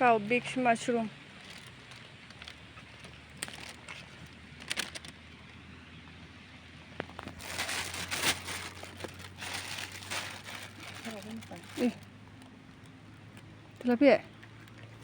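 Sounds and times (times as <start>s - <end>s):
leaves and undergrowth rustling: 0.0s - 5.6s, 7.0s - 15.0s.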